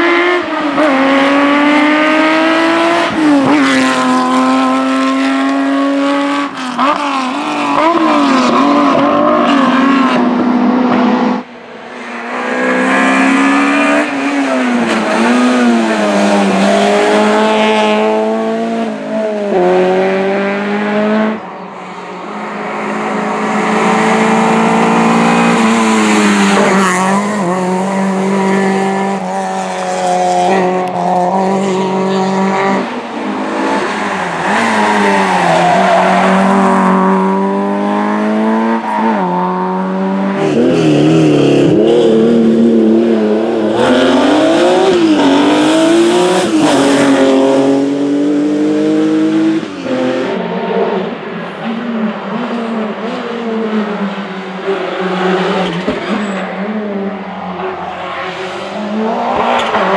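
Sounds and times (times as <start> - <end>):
rally car engines revving high: 0.0 - 59.9.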